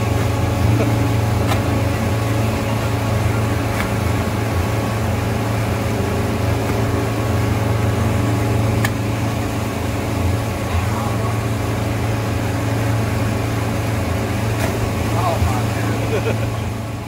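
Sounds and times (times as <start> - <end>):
outboard motor droning: 0.0 - 17.0
water rushing from wake: 0.0 - 17.0.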